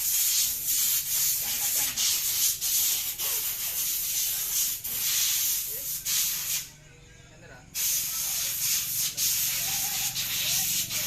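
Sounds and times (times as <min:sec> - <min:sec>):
loud high-pitched hiss: 0:00.0 - 0:06.8, 0:07.7 - 0:11.0.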